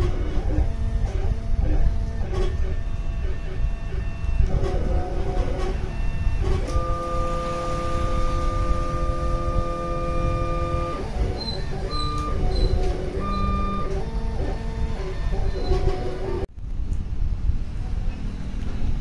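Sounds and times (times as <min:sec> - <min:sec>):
vehicle horn: 0:00.0 - 0:16.4
low traffic rumble: 0:00.0 - 0:19.0.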